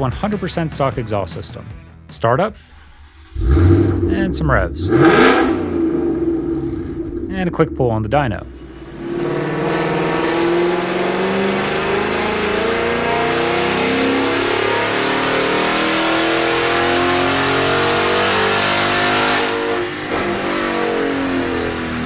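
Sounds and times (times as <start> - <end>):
car engine revving at full throttle: 2.8 - 22.0.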